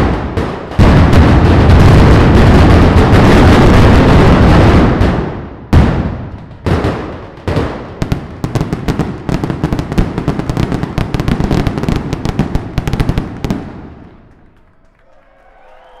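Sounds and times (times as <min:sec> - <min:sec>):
heavy firecracker bangs: 0:00.0 - 0:14.6
firecrackers cracking rapidly: 0:00.0 - 0:14.9.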